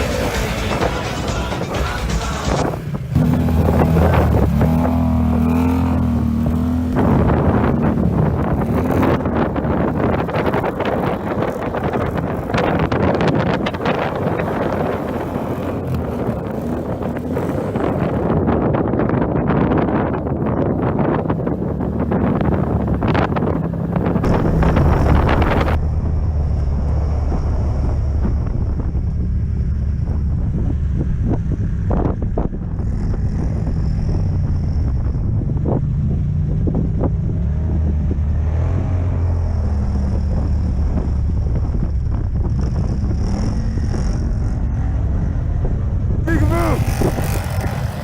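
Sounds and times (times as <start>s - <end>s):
atv engine running: 0.0s - 48.0s
wind buffeting microphone: 2.5s - 48.0s.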